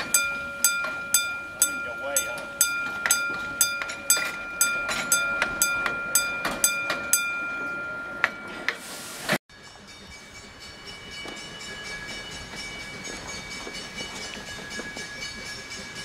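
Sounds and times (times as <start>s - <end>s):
steady ringing tone: 0.0s - 8.7s, 9.5s - 16.0s
train wheels clicking over rail joints: 0.0s - 8.8s, 10.4s - 16.0s.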